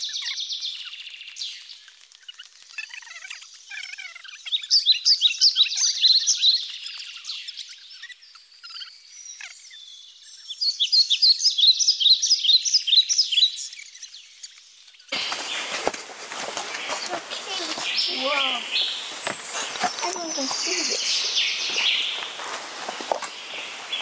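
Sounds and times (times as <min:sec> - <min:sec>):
rapid high-pitched chirping: 0:00.0 - 0:15.7, 0:16.7 - 0:22.2.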